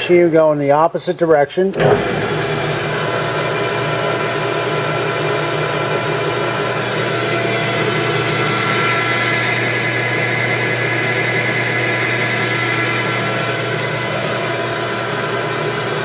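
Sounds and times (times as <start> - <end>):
lathe whirring: 0.0 - 16.0.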